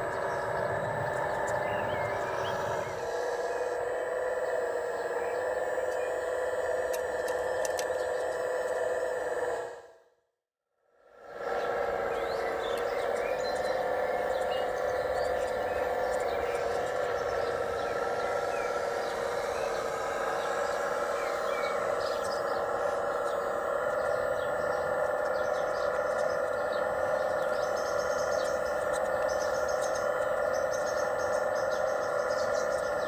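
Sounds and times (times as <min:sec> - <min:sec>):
birds chirping: 0:00.0 - 0:09.6, 0:11.2 - 0:33.0
hydraulic pump running: 0:00.0 - 0:10.1, 0:11.0 - 0:33.0.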